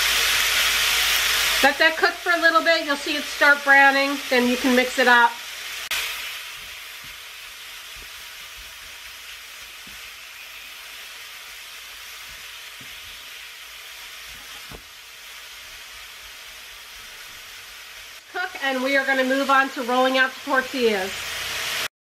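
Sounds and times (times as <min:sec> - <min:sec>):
chicken sizzling in a skillet: 0:00.0 - 0:21.9.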